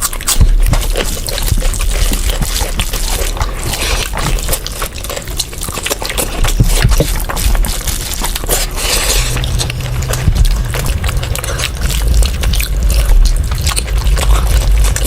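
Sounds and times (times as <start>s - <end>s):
wet chewing sounds: 0.0s - 15.0s.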